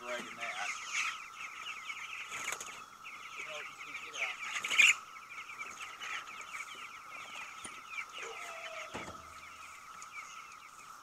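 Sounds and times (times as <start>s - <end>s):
chicks peeping and chirping: 0.0s - 11.0s.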